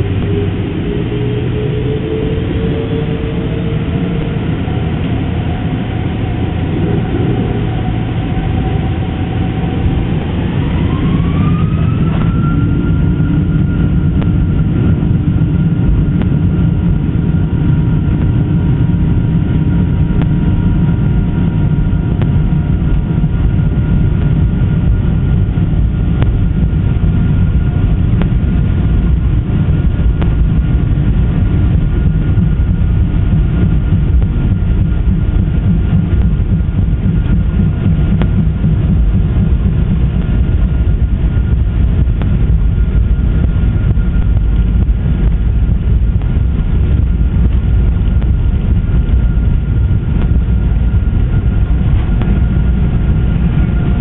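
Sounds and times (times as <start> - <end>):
jet engines whining: 0.0 - 54.0
loud engine rumble: 0.0 - 54.0.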